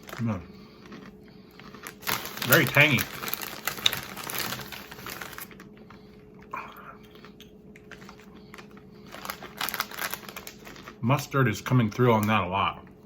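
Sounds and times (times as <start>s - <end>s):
chewing crunchy potato chips: 0.0s - 13.0s.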